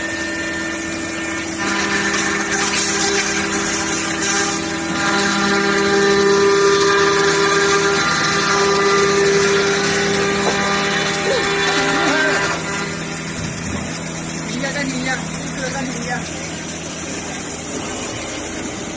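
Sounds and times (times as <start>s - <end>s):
cnc router running: 0.0s - 18.9s.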